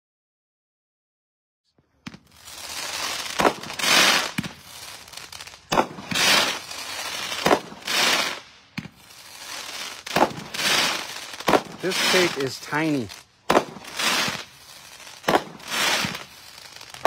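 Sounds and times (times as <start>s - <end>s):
firework crackling: 2.0s - 17.0s
firework pops: 2.0s - 17.0s.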